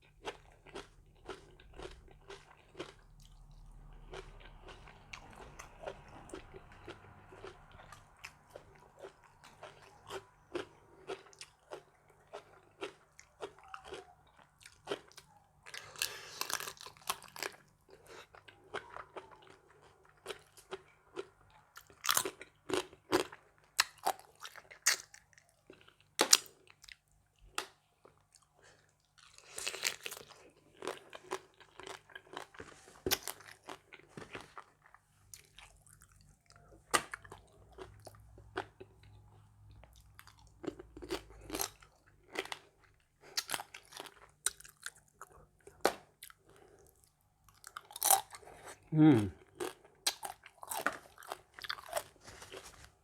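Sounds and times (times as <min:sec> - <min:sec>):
crunching while eating: 0:00.0 - 0:53.0
person chewing food: 0:00.0 - 0:53.0.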